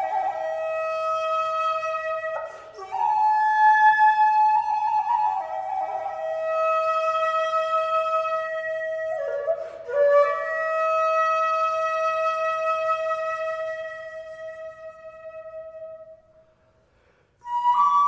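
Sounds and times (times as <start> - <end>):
solo flute sustained notes: 0.0 - 16.3, 17.4 - 18.0.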